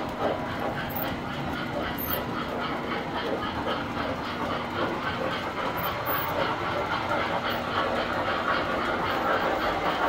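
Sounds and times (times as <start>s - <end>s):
model trains rolling clatter: 0.0s - 10.0s.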